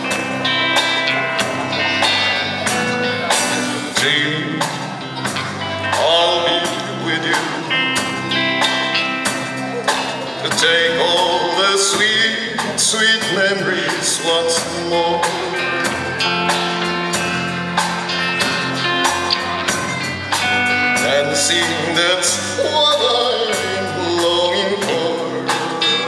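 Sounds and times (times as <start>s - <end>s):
amplified guitars: 0.0s - 26.0s
drum kit beat: 0.0s - 26.0s.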